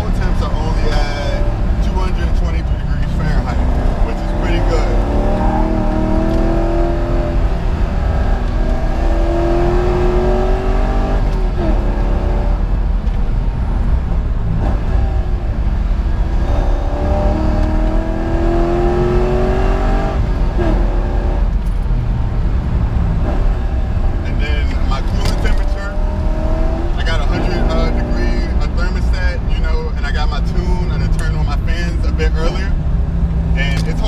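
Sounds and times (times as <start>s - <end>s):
car engine accelerating hard: 0.0s - 34.0s
low road rumble: 0.0s - 34.0s.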